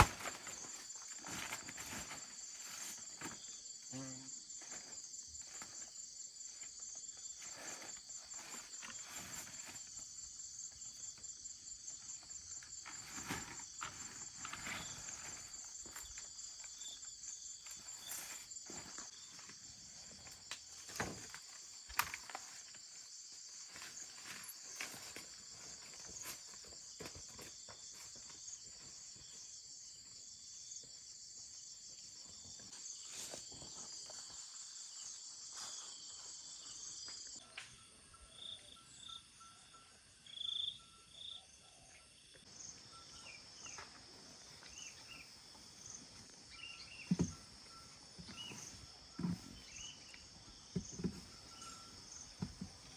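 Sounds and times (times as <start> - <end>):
insect chorus: 0.0 - 52.9.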